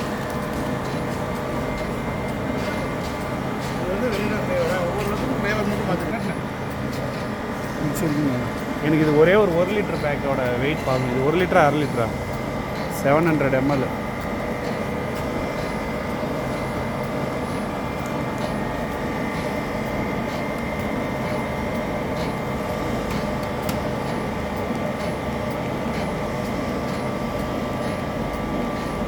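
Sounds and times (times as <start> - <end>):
machinery hum with high whine: 0.0 - 29.0.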